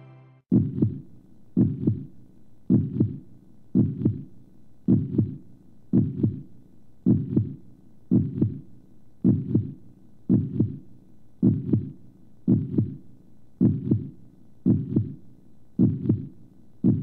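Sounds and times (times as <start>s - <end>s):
heartbeat thumps: 0.5s - 15.2s, 15.8s - 17.0s.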